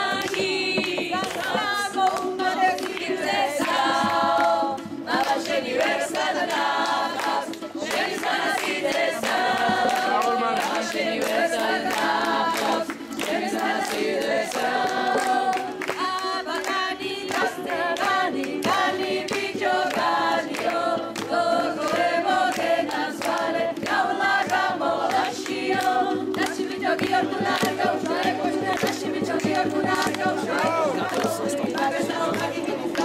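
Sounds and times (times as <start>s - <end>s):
choir singing: 0.0s - 33.0s
regular beat: 0.0s - 33.0s.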